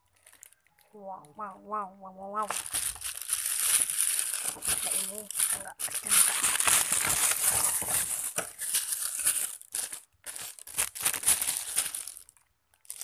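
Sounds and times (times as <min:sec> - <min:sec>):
plastic packaging crinkling: 0:00.0 - 0:01.0, 0:02.4 - 0:13.0.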